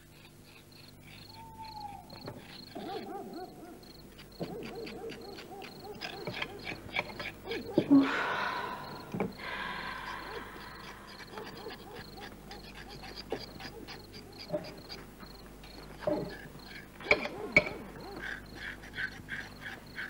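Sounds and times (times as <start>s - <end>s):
crickets chirping: 0.0s - 20.0s
hooting animal calls: 0.0s - 20.0s.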